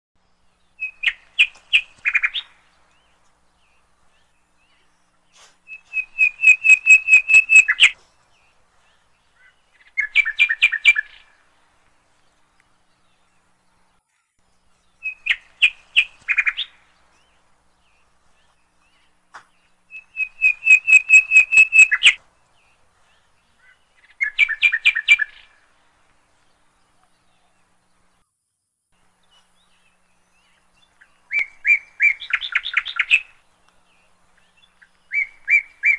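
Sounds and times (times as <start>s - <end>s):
songbird rapid chirps: 0.2s - 35.9s.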